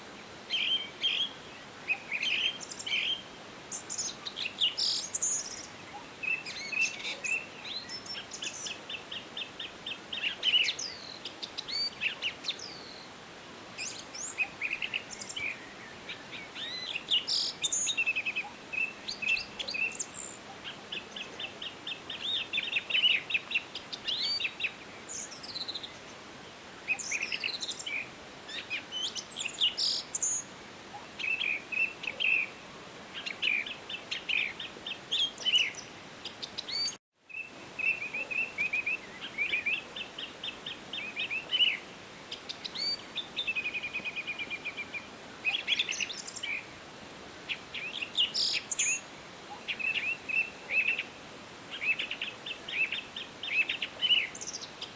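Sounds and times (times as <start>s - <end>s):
faint background hiss: 0.0s - 54.9s.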